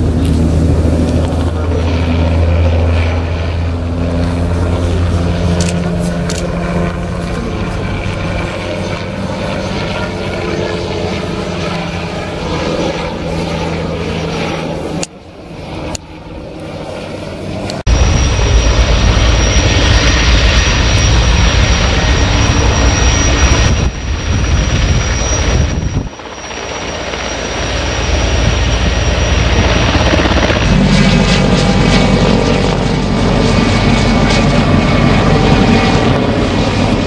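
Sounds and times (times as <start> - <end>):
helicopter rotor beat: 0.0 - 37.0
helicopter turbine whine: 0.0 - 37.0.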